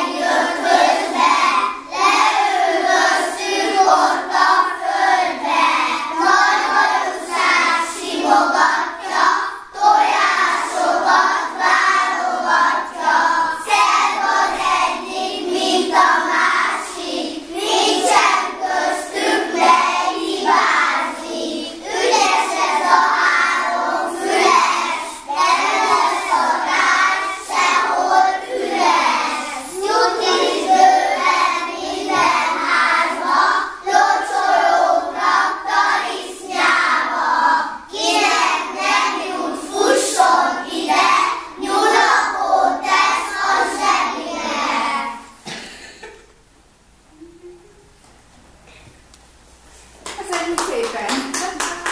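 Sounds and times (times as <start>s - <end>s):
young children singing: 0.0s - 46.3s, 51.3s - 51.9s.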